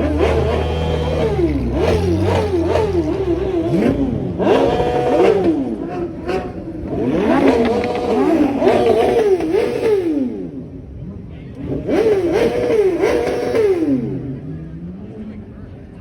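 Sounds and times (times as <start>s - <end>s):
vehicle engines revving: 0.0s - 16.0s.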